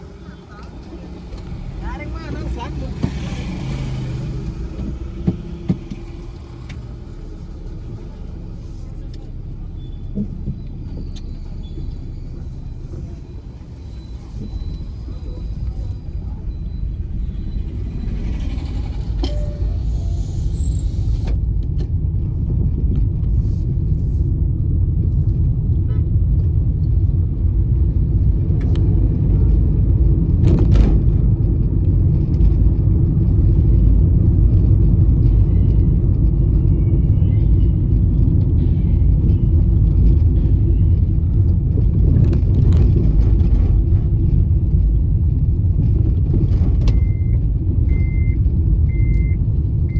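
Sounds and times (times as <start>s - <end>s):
road and tyre noise: 0.0s - 49.9s.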